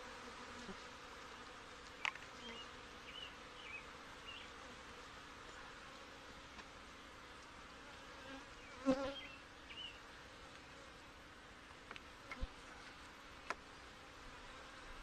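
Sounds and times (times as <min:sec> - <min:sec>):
honey bee colony humming: 0:00.0 - 0:15.0.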